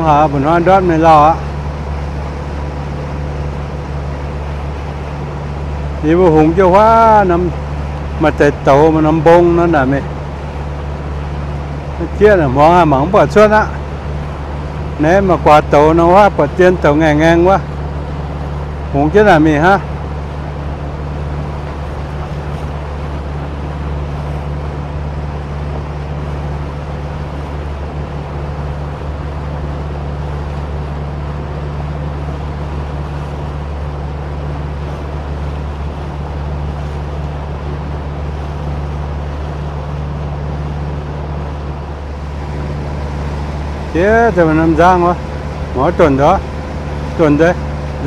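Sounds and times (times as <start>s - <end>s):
boat motor running: 0.0s - 48.0s
wind and water hiss: 0.0s - 48.0s.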